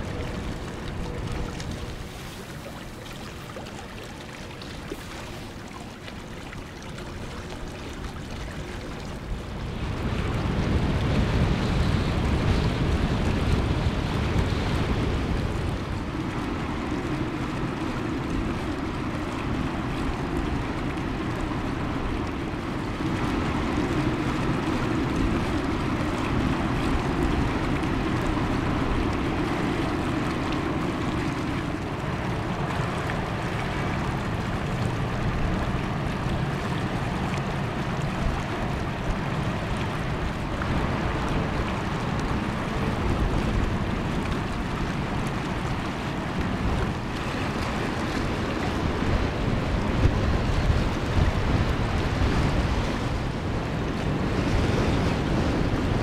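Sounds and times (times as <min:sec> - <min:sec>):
motor yacht engine drone: 0:00.0 - 0:56.0
small waves: 0:00.0 - 0:56.0
wind on microphone: 0:00.0 - 0:56.0.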